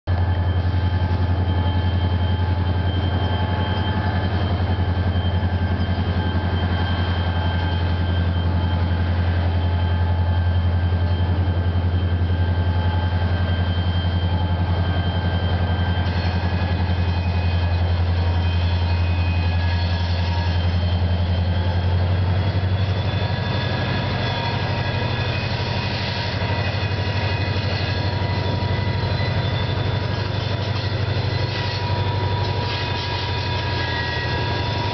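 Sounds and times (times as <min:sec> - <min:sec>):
diesel locomotive drone: 0:00.0 - 0:34.9
faint high whines: 0:00.1 - 0:34.9.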